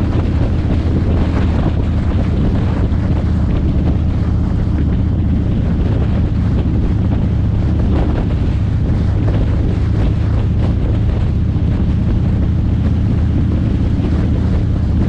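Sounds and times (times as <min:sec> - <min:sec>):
tyres on the road: 0:00.0 - 0:15.0
vehicle engine drone: 0:00.0 - 0:15.0
wind rushing over microphone: 0:00.0 - 0:15.0.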